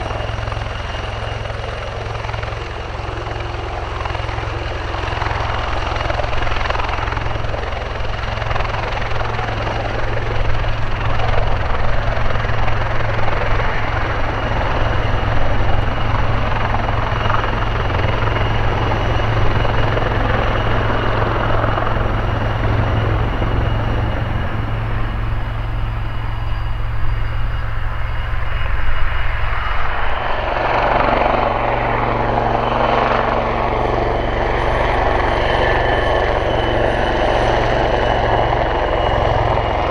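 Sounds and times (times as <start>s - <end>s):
helicopter hovering: 0.0s - 39.9s.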